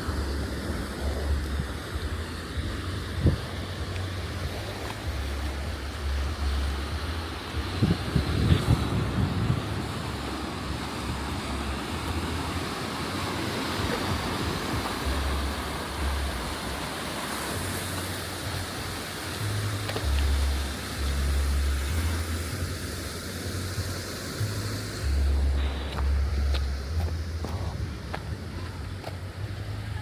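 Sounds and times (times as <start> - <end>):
wind buffeting microphone: 0.0 - 20.2, 25.1 - 30.0
steady rushing outdoor noise: 0.0 - 30.0.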